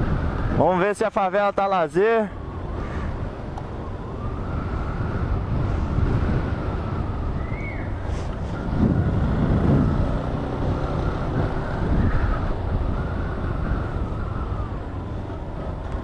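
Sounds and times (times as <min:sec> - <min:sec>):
motorcycle engine cruising: 0:02.4 - 0:16.0.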